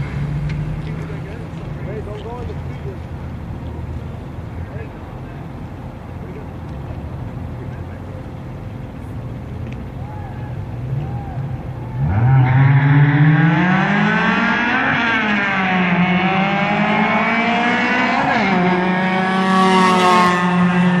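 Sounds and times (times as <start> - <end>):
racing car engines at full throttle: 0.0 - 21.0.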